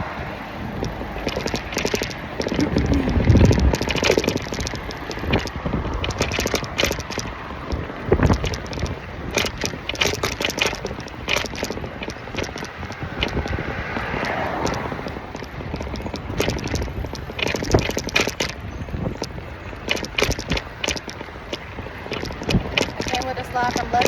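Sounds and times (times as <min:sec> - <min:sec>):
bicycle clattering and rattling: 0:00.0 - 0:24.0.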